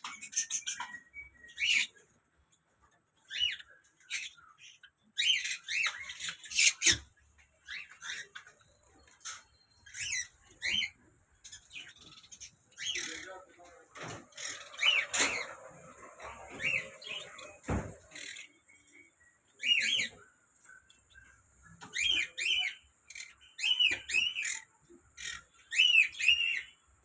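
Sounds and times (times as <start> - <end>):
sparrows chirping and calling: 0.0 - 27.0.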